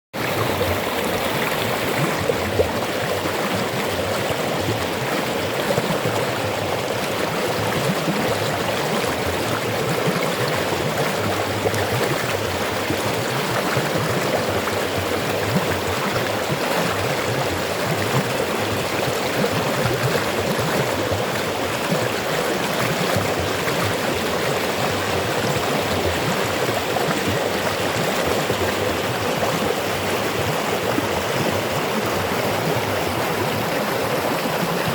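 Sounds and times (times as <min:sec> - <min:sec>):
river water rushing over rocks: 0:00.2 - 0:34.9.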